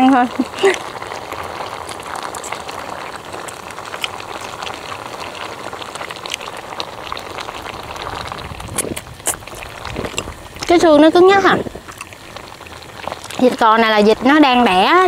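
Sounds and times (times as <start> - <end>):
broth bubbling in pot: 0.0 - 15.0.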